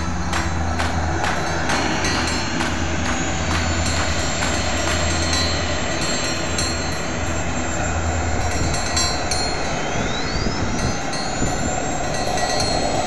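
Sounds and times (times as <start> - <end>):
high whine rising in pitch: 0.0 - 13.0.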